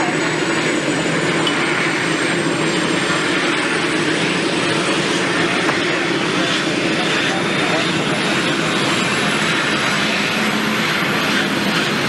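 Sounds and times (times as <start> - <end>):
helicopter engine and rotor: 0.0 - 12.0
high-pitched turbine whine: 0.0 - 12.0.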